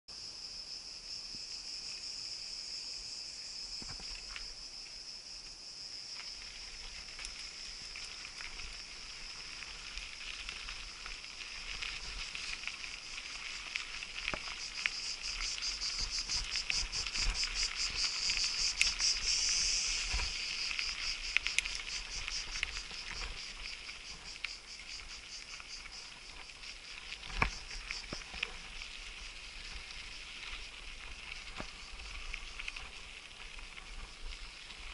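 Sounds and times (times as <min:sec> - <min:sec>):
insects shrilling: 0:00.2 - 0:34.9
bike rolling over gravel: 0:05.9 - 0:34.9.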